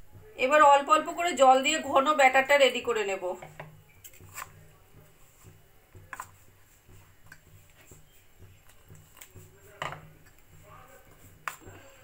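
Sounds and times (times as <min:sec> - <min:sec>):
spoon stirring thick batter: 0:00.0 - 0:12.0.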